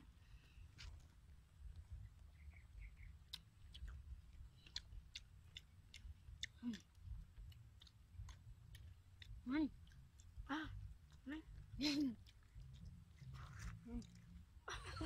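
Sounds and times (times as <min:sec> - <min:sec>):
low rumble: 0:00.0 - 0:15.0
chewing mouth sounds: 0:01.7 - 0:14.5.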